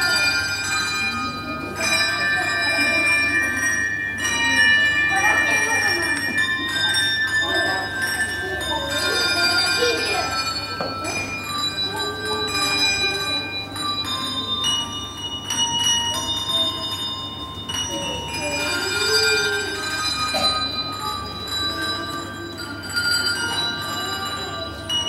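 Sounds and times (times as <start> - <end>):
handbell choir ringing melody: 0.0 - 25.0.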